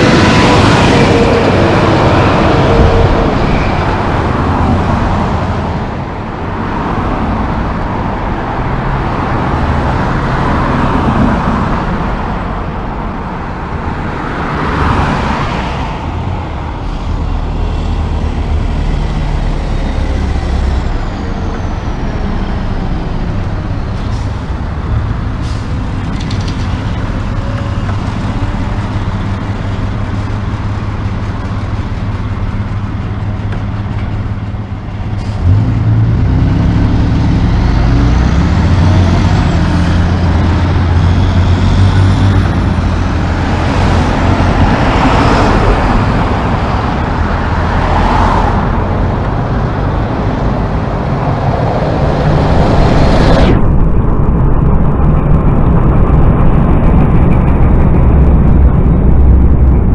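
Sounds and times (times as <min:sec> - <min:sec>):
diesel truck engine: 0:00.0 - 0:59.9
passing road traffic: 0:00.0 - 0:59.9.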